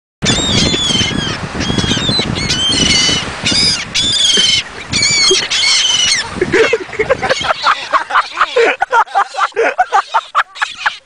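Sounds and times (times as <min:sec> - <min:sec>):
seagulls squawking: 0:00.2 - 0:11.0.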